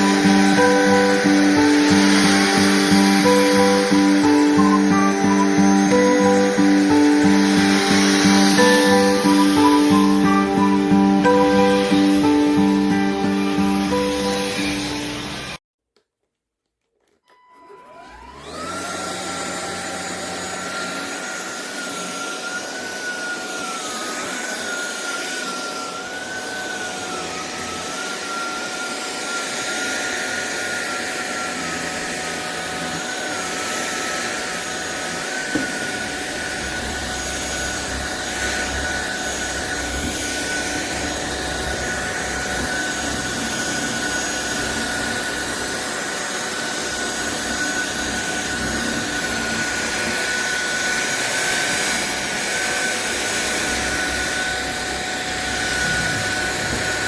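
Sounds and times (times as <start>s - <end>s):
vacuum cleaner motor whining: 0.0s - 15.6s, 17.0s - 57.0s.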